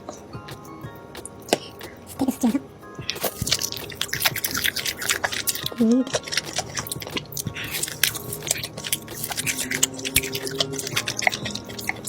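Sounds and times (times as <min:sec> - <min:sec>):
person chewing food: 0:01.2 - 0:12.0.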